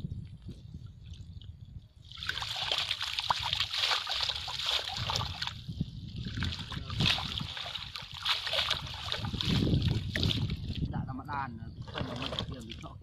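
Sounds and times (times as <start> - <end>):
water splashing and sloshing: 0.4 - 11.1, 11.8 - 13.0.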